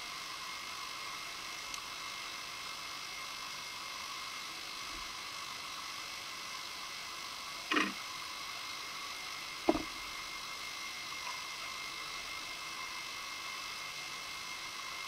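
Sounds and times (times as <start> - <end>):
camera self-noise hiss and whine: 0.0 - 15.0.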